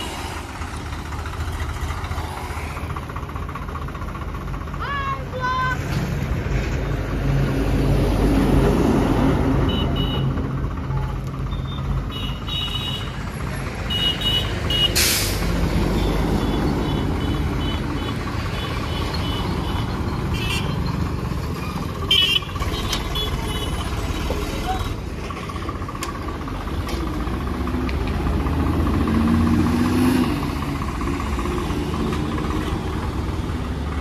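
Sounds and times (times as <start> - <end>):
diesel tractor engine running: 0.0 - 34.0
road traffic: 0.0 - 34.0
truck passing: 0.0 - 34.0.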